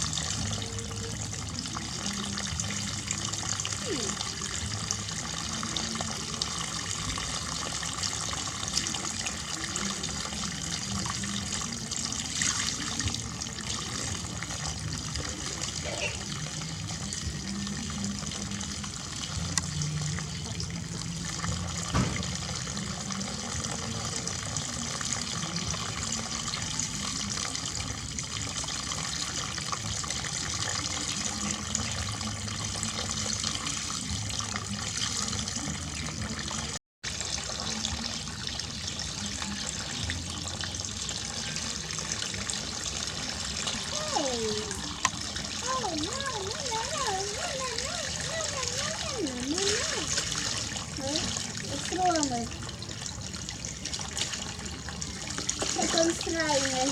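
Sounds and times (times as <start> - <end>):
water running from a tap: 0.0 - 56.9.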